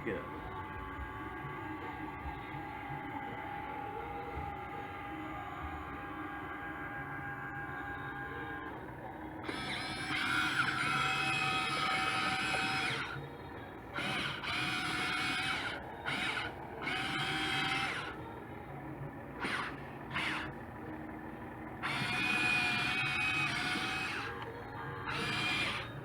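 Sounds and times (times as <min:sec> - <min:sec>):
toy excavator motors whining: 0:00.0 - 0:26.0.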